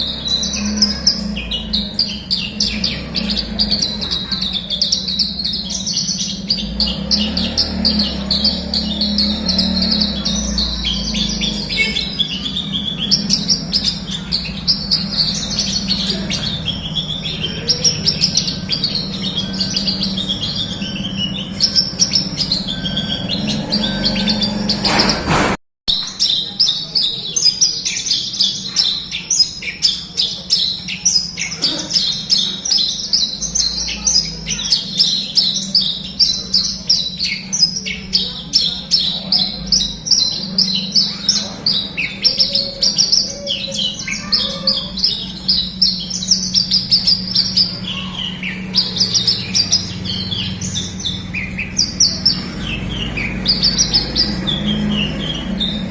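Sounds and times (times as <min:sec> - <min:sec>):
bird singing chirps and trills: 0:00.0 - 0:55.9.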